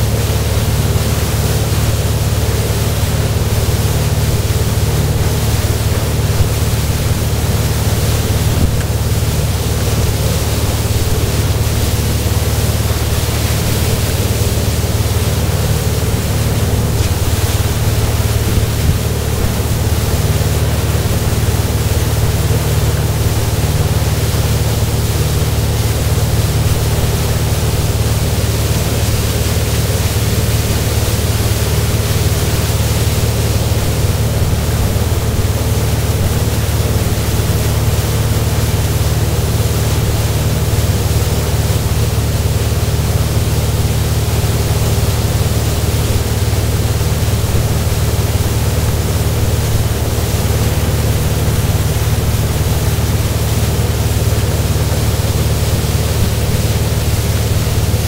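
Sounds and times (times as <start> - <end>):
boat engine drone: 0.0 - 58.0
churning wake water: 0.0 - 58.0.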